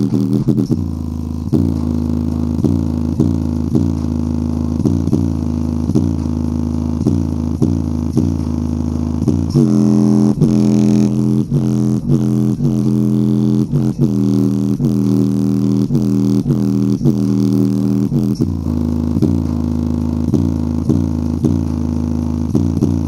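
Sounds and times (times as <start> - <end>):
speaker playing pulsing bass: 0.0 - 23.0.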